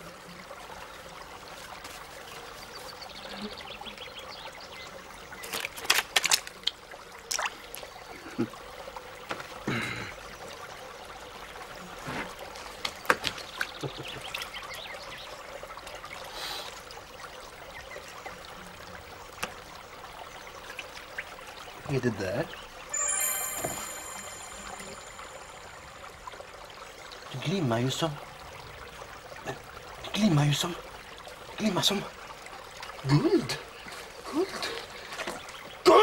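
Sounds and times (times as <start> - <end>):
water trickling in fountain: 0.0 - 36.0.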